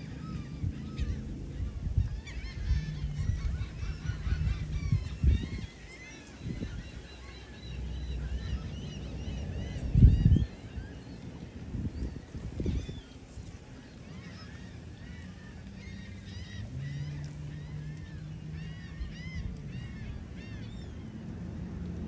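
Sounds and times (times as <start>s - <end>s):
low rumble: 0.0s - 22.0s
seagulls calling: 0.0s - 22.0s.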